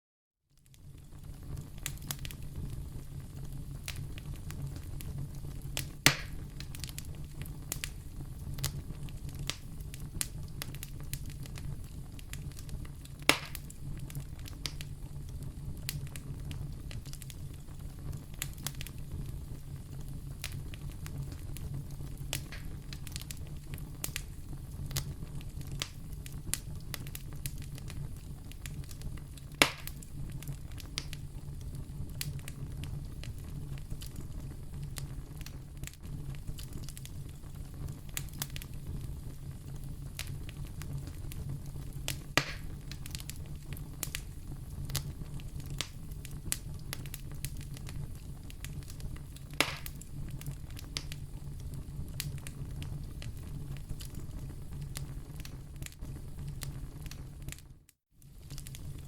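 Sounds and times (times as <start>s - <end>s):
fire crackling in a fireplace: 0.5s - 59.0s
loud fire pops: 0.7s - 59.0s.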